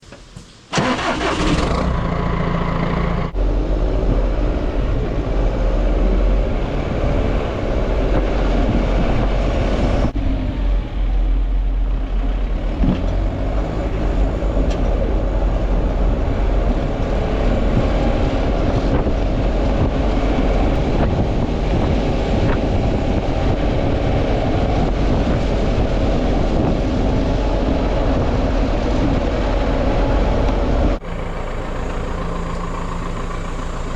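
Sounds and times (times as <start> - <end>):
tractor engine under load: 0.0 - 33.9.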